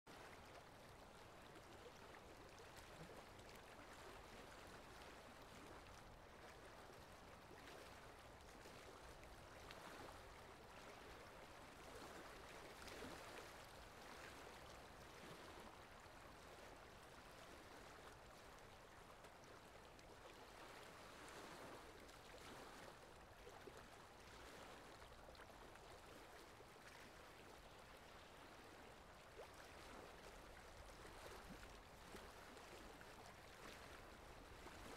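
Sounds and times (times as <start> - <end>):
soft splashes: 0.1 - 34.9.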